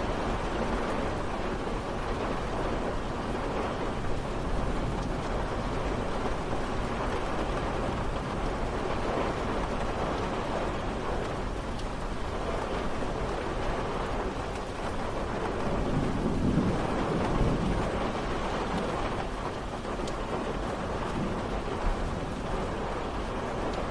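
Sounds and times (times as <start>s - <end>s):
rain falling: 0.0s - 23.9s.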